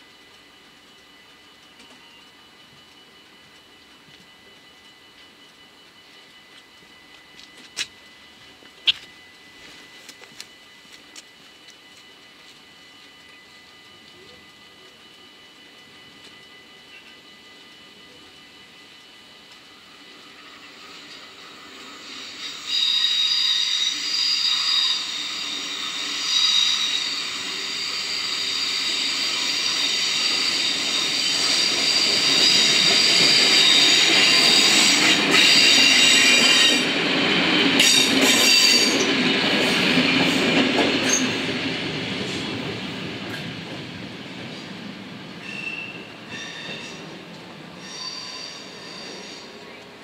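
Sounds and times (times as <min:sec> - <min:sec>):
electric train passing: 0:00.0 - 0:50.0
rail and wheel noise: 0:00.0 - 0:50.0.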